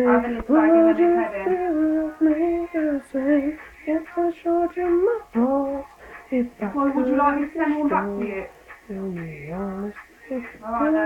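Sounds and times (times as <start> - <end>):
woman singing wordlessly: 0.0 - 11.0.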